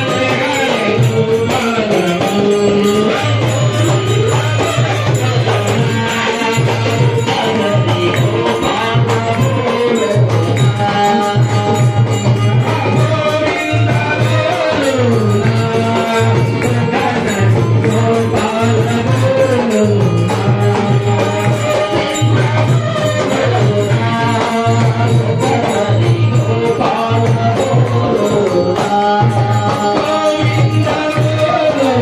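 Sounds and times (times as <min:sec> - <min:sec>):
man singing through loudspeaker: 0:00.0 - 0:32.0
rhythmic percussion: 0:00.0 - 0:32.0.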